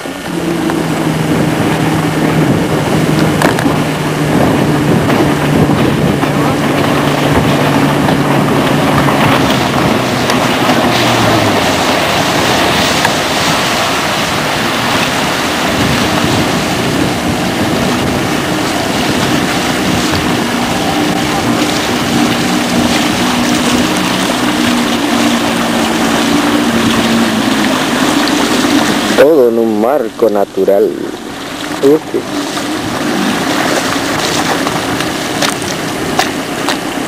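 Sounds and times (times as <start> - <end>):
outboard motor running: 0.0 - 37.0
wind and water rushing: 0.0 - 37.0.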